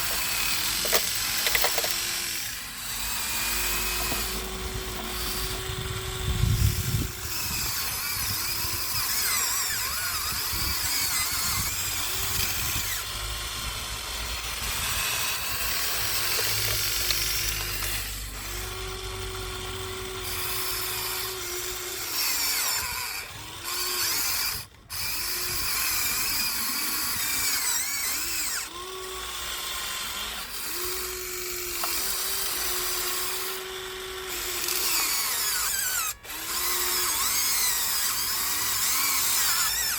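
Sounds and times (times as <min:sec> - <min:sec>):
toy excavator motors whining: 0:00.0 - 0:39.9.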